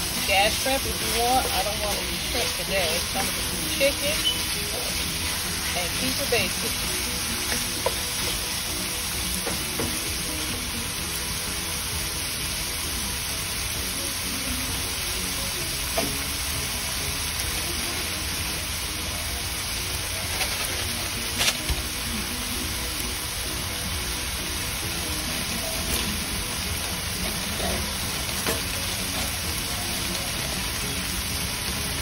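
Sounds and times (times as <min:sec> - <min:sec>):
chicken sizzling in a wok: 0:00.0 - 0:32.0.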